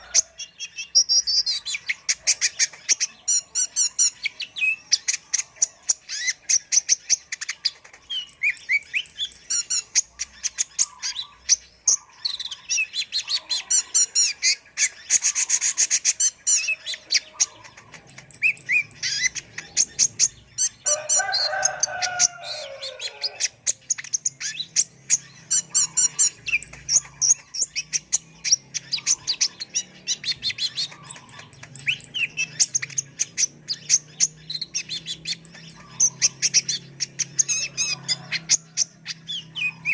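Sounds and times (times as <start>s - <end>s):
sunbird singing chirps and trills: 0.0s - 39.9s.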